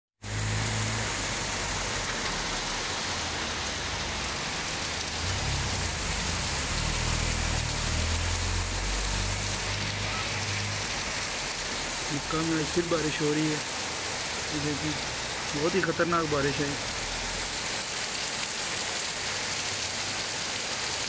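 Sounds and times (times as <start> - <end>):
heavy rain on flooded street: 0.2 - 21.0.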